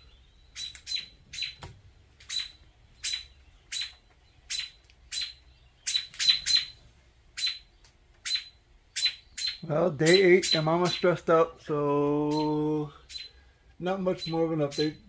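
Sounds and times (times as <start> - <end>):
bird alarm calls: 0.0 - 11.4, 12.2 - 15.0.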